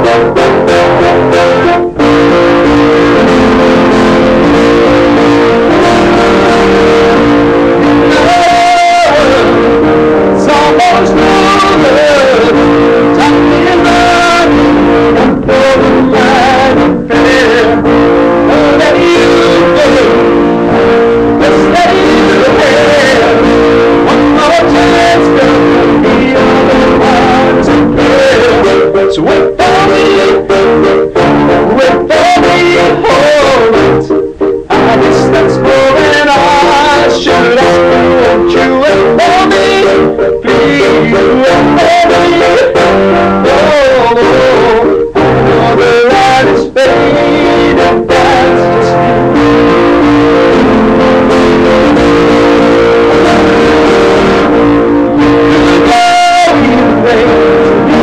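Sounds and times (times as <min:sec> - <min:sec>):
instrumental accompaniment: 0:00.0 - 0:58.0
man singing distorted: 0:00.0 - 0:58.0.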